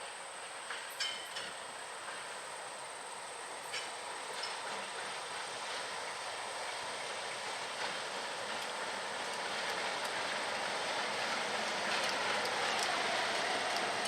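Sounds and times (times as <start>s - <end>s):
train wheels on rail: 0.0s - 14.0s.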